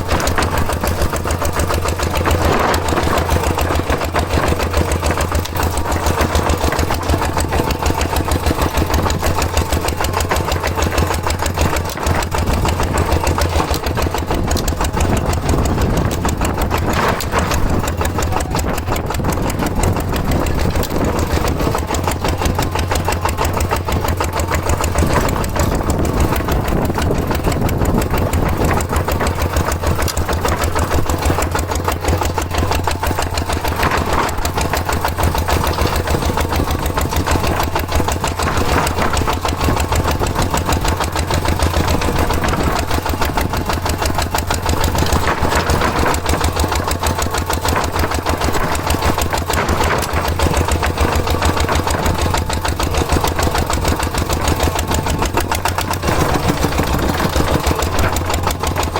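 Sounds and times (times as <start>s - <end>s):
tractor engine chugging: 0.0s - 58.9s.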